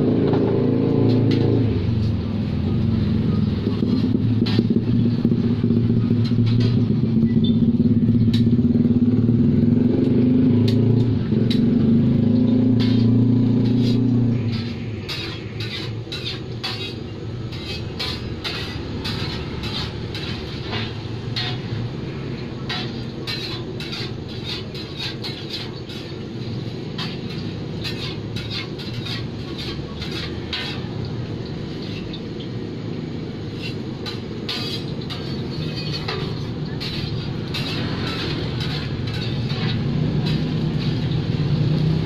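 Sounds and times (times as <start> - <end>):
food frying in oil: 0.7 - 42.0
metal spatula scraping a pan: 3.7 - 5.1, 6.1 - 7.7, 10.6 - 42.0.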